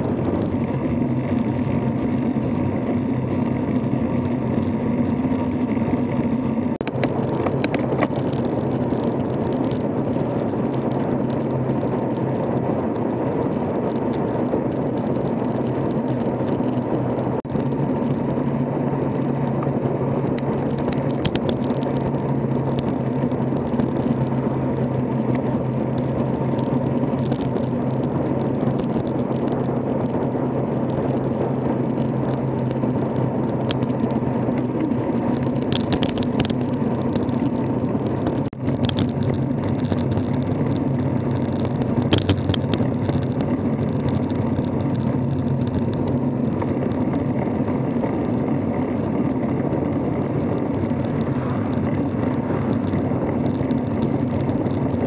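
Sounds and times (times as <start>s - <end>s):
wind and tyre noise: 0.0s - 55.0s.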